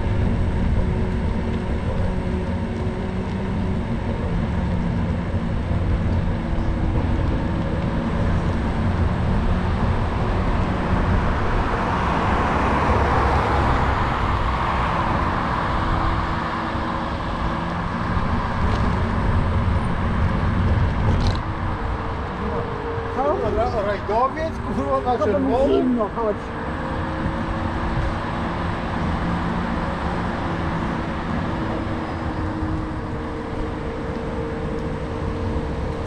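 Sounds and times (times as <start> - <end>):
wheels on road: 0.0 - 36.0
wind rumbling on microphone: 0.0 - 36.0
car passing: 5.0 - 36.0.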